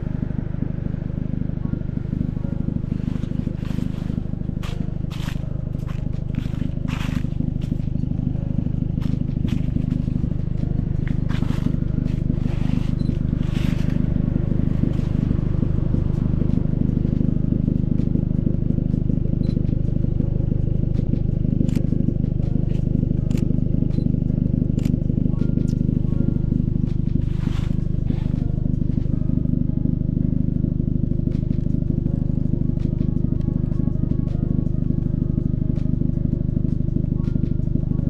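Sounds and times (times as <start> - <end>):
car engine and road drone: 0.0 - 38.0.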